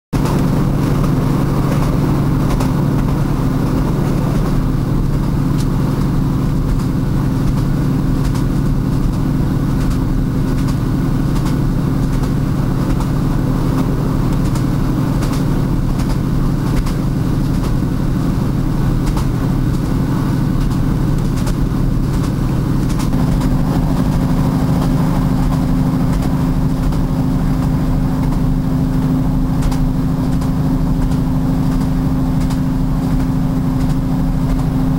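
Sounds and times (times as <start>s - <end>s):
train rumbling on track: 0.1s - 34.9s
wheels knocking on rail joints: 0.2s - 34.9s.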